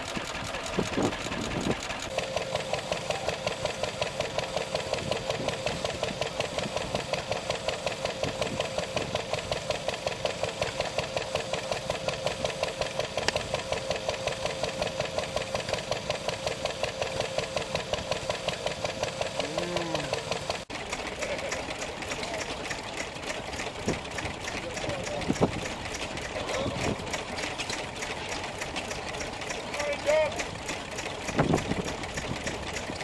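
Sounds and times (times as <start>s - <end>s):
stationary engine running: 0.0s - 33.0s.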